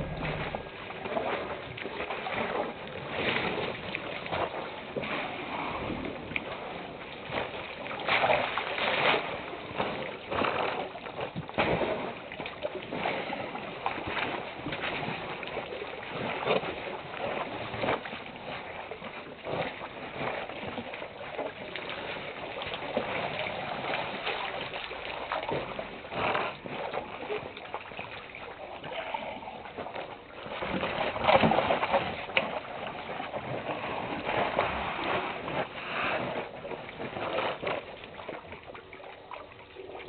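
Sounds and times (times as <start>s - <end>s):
elephants splashing water: 0.0s - 40.0s.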